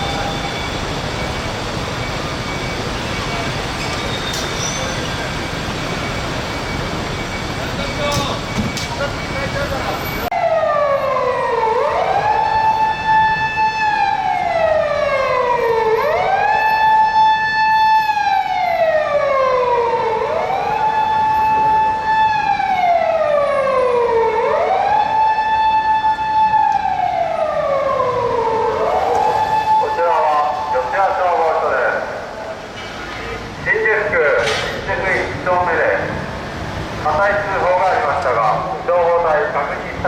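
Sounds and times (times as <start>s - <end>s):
fire engine siren wailing: 0.0s - 32.7s, 33.3s - 40.0s.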